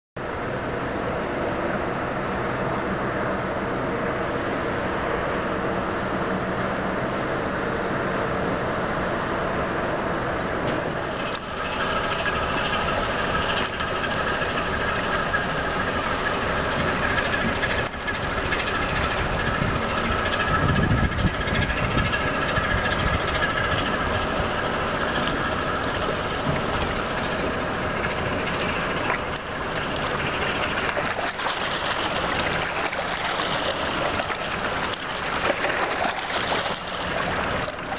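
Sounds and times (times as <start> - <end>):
ship diesel engines droning: 0.2 - 37.9.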